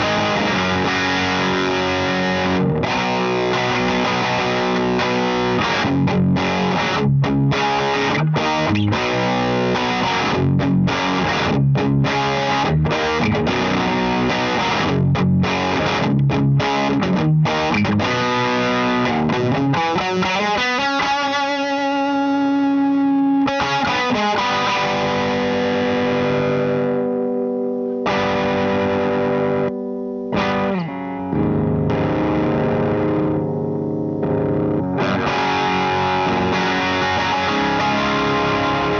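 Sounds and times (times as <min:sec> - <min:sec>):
distorted electric guitar chords: 0:00.0 - 0:38.9.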